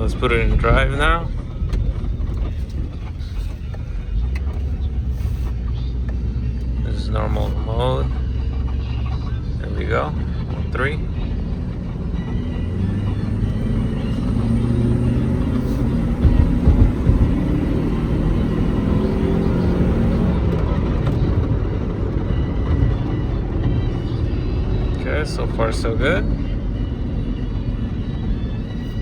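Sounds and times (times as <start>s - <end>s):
low thumps: 0.0s - 26.6s
car engine accelerating: 0.0s - 29.0s
road noise: 0.0s - 29.0s.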